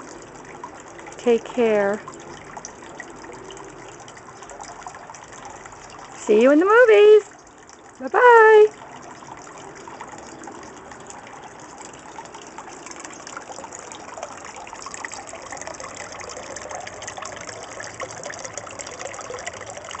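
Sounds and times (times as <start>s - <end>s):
water fountain splashing: 0.0s - 20.0s.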